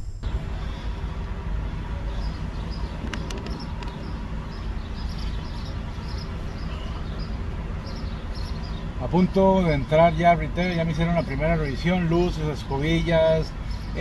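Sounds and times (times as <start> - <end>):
van engine idling: 0.0 - 14.0.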